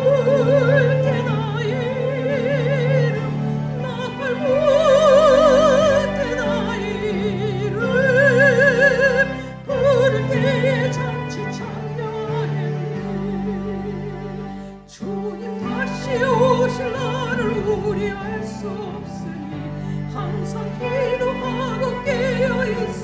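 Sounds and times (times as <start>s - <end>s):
backing accompaniment: 0.0s - 23.0s
soprano singing a hymn: 0.0s - 23.0s.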